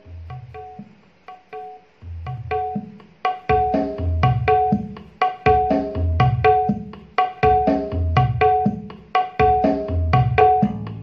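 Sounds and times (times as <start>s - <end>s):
percussive music through speakers: 0.0s - 11.0s.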